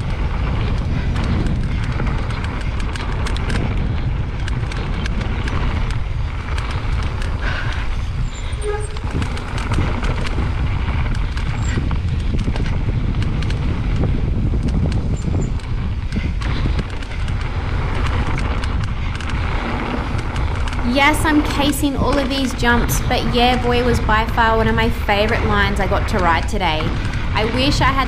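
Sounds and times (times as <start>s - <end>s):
bike chain and frame rattling: 0.0s - 28.0s
bike tyres on dirt: 0.0s - 28.0s
wind rumbling on microphone: 0.0s - 28.0s.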